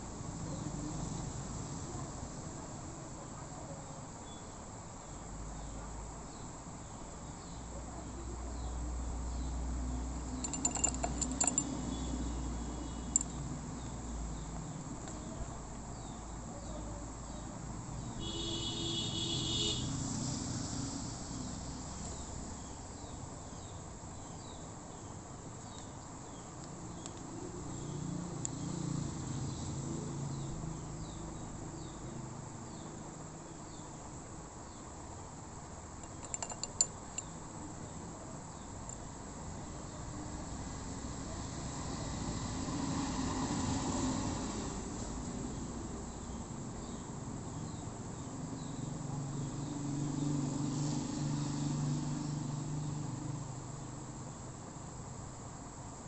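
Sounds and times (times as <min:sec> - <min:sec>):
crickets chirping: 0:08.5 - 0:56.0.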